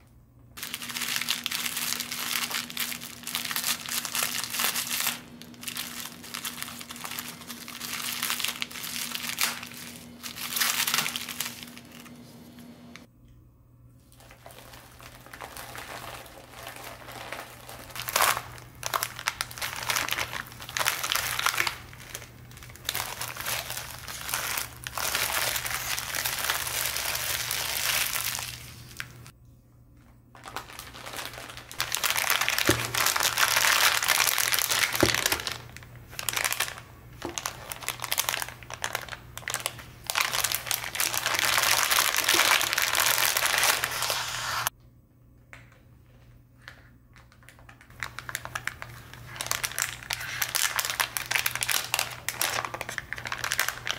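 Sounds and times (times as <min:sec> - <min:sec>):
plastic packaging crinkling: 0:00.6 - 0:12.7, 0:14.0 - 0:29.3, 0:30.3 - 0:44.7, 0:46.6 - 0:53.9.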